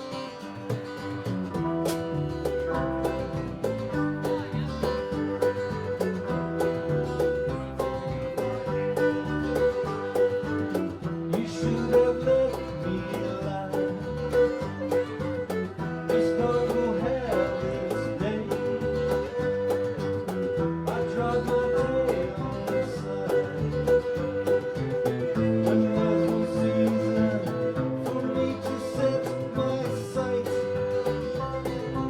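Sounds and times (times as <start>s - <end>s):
country bluegrass band playing: 0.0s - 32.0s.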